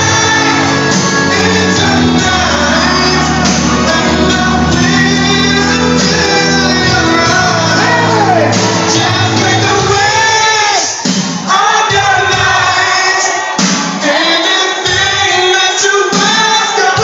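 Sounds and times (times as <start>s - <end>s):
people shouting: 0.0s - 15.2s
loud music with singing: 0.0s - 17.0s.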